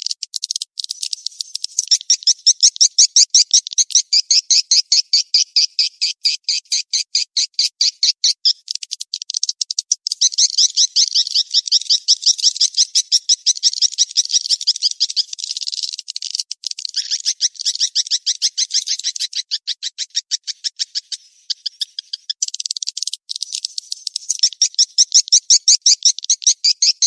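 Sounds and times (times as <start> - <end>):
birds chirping twitters: 0.0 - 27.0.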